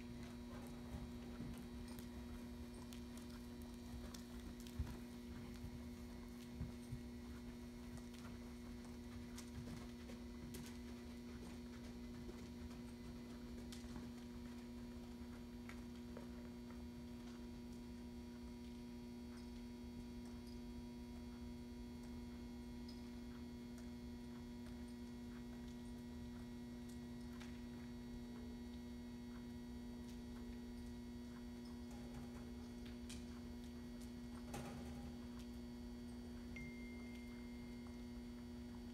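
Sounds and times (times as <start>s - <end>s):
electrical mains hum: 0.0s - 38.9s
faint irregular ticks: 0.2s - 38.9s.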